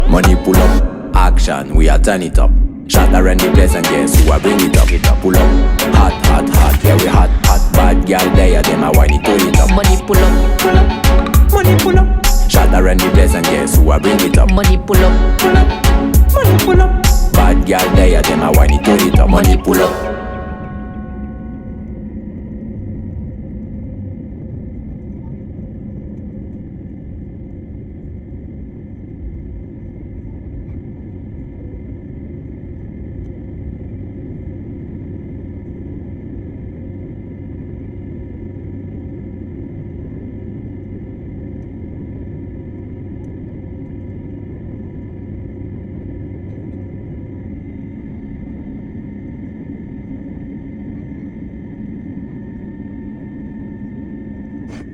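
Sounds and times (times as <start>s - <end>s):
thin high whine: 0.0s - 23.1s, 30.6s - 54.9s
jet engines rumbling: 0.0s - 54.9s.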